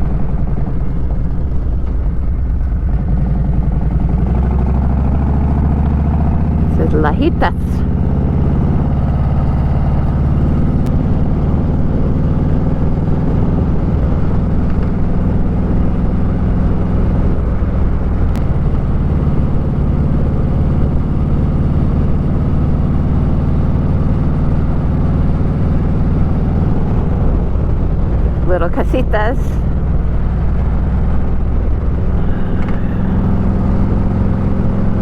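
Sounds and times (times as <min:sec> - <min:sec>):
motorcycle engine cruising: 0:00.0 - 0:35.0.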